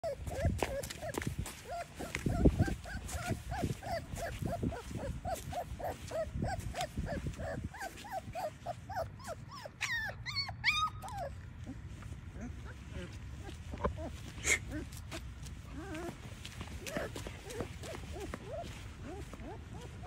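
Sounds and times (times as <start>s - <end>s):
puppy whimpering: 0.0s - 15.0s, 15.7s - 20.0s.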